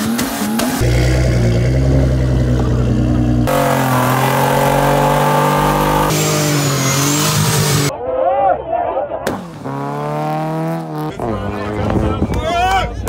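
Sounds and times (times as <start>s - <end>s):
car engines revving high: 0.0s - 7.9s, 9.2s - 12.2s.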